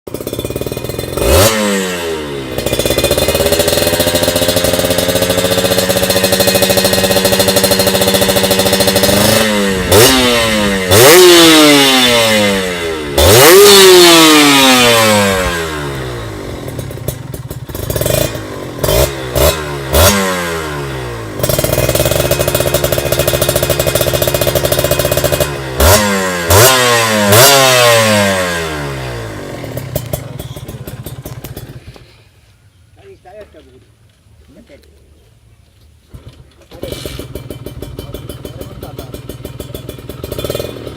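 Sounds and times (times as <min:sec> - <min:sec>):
motorcycle engine revving: 0:00.1 - 0:32.3, 0:36.1 - 0:40.9.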